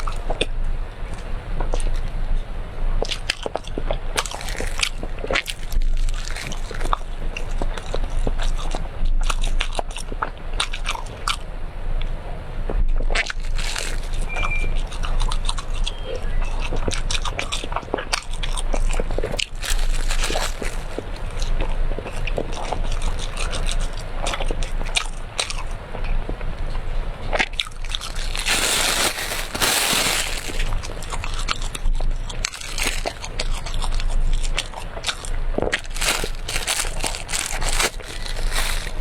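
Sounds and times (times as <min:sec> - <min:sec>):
biting and chewing: 0:00.0 - 0:02.1, 0:03.0 - 0:11.4, 0:13.0 - 0:26.2, 0:27.3 - 0:39.0.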